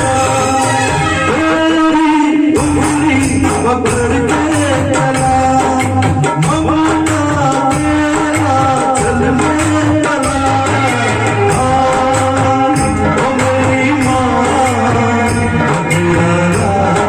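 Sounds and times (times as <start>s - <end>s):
percussion beat: 0.0s - 17.0s
person singing: 0.0s - 17.0s.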